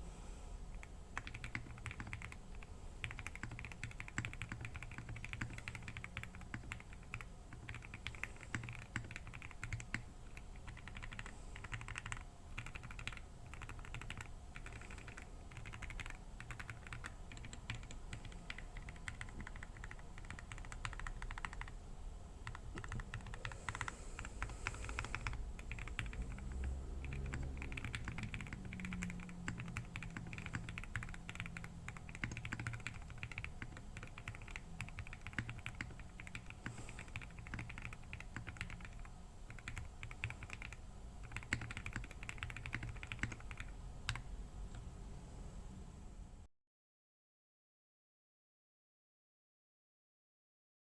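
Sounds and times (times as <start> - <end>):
mechanical keyboard typing: 0.7 - 21.8, 22.4 - 44.9.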